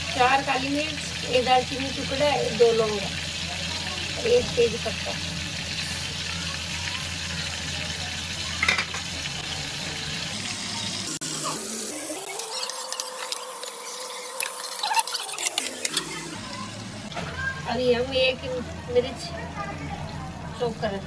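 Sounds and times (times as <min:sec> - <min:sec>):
butter and spices sizzling: 0:00.0 - 0:21.0.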